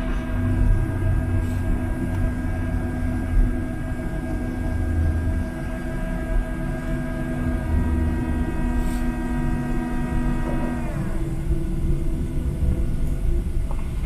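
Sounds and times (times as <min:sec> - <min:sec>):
aircraft low rumble: 0:00.0 - 0:14.0
jet engine whine: 0:00.0 - 0:14.0.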